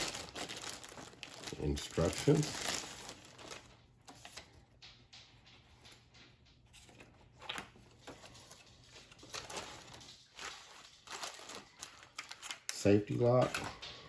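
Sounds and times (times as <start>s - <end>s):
plastic bag and paper rustling: 0.0s - 4.6s, 6.8s - 14.0s.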